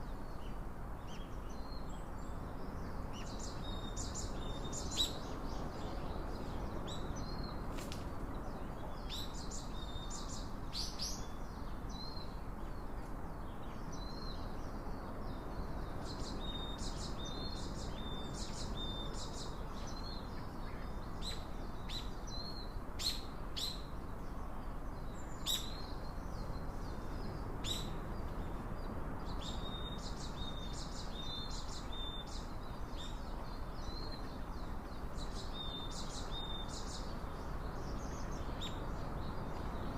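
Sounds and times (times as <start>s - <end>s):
low outdoor rush: 0.0s - 39.9s
small birds chirping: 0.0s - 39.9s.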